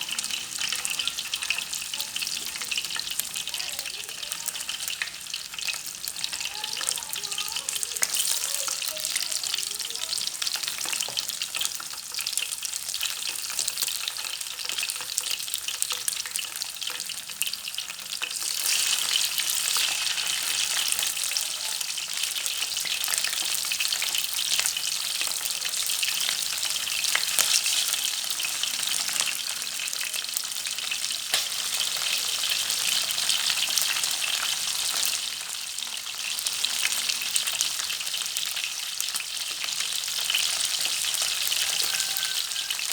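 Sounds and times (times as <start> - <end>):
fish sizzling in hot oil: 0.0 - 42.9.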